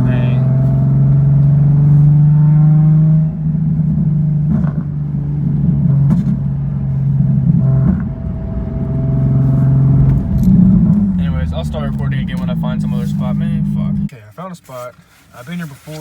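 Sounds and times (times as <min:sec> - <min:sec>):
car engine droning: 0:00.0 - 0:14.1.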